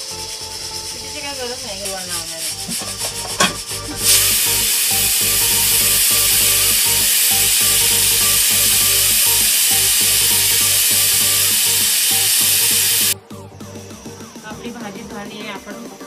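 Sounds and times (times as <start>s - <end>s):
pressure cooker whistle hissing: 0.0s - 13.2s.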